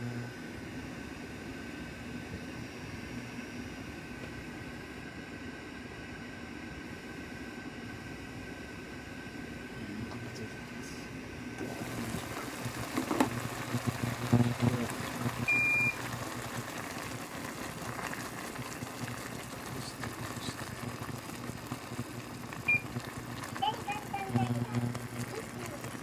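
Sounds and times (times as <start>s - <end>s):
induction cooktop humming: 0.0s - 26.0s.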